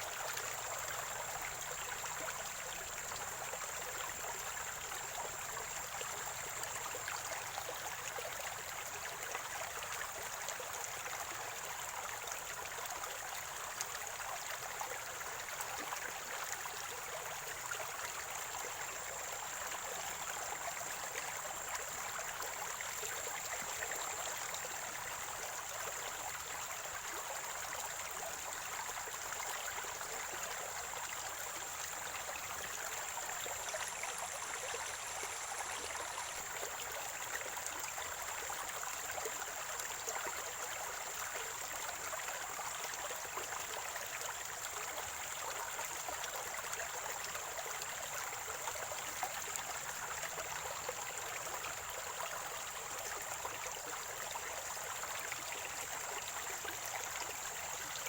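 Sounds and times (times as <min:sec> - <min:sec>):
spring water gurgling: 0:00.0 - 0:58.0.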